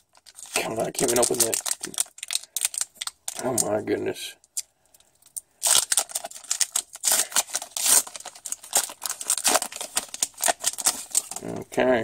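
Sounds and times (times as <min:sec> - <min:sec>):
foil wrapper tearing and crinkling: 0:00.0 - 0:03.8, 0:05.2 - 0:11.6.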